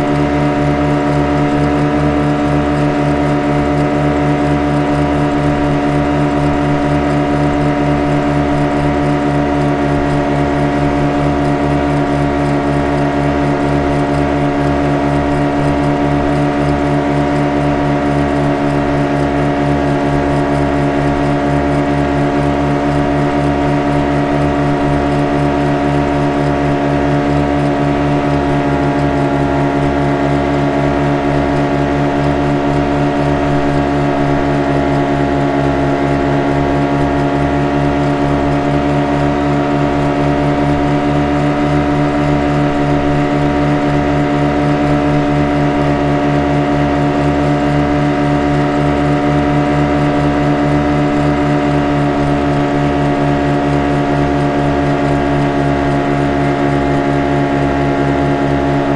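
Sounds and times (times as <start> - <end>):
speedboat engine running: 0.0 - 58.9.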